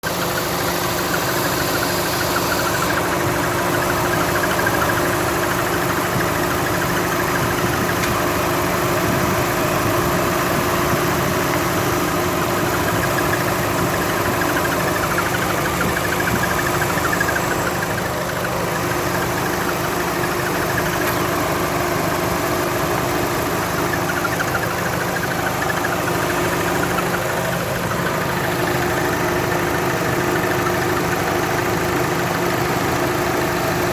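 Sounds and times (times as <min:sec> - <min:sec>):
car engine idling: 0:00.0 - 0:33.9
fast squeaking from engine: 0:00.0 - 0:33.9.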